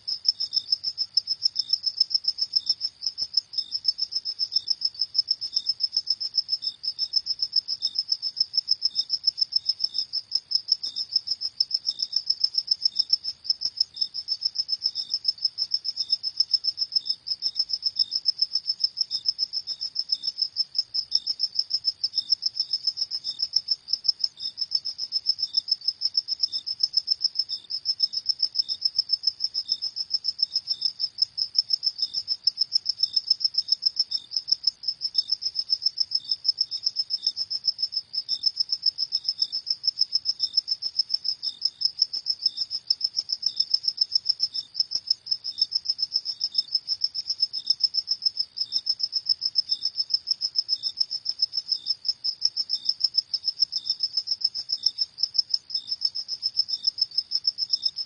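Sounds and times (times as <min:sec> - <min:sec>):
crickets chirping rapidly: 0:00.0 - 0:58.0
lower-pitched cricket chirps: 0:00.0 - 0:58.0.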